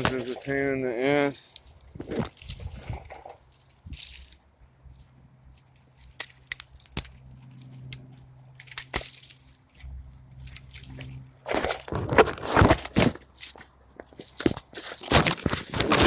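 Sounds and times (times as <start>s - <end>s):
twigs crunching and snapping: 0.0s - 16.0s.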